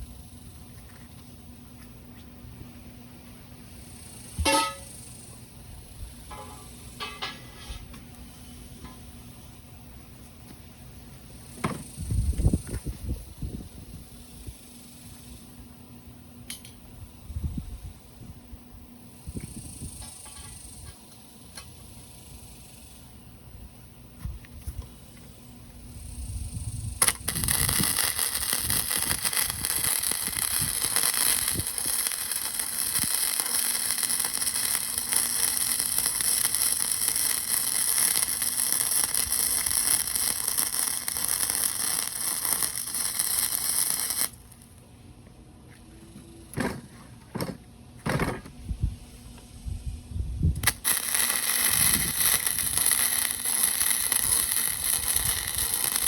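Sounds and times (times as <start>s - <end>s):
welding arc crackling and hissing: 0.0s - 2.3s, 3.3s - 44.8s, 50.4s - 56.0s.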